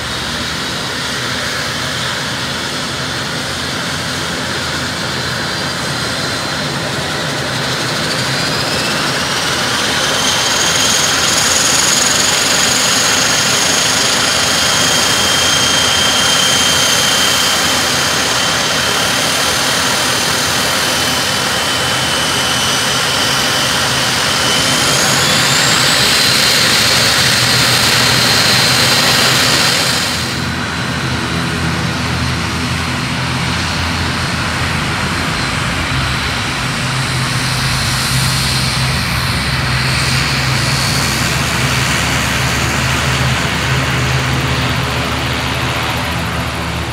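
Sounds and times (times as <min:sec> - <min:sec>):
turboprop turbine whine: 0:00.0 - 0:46.9.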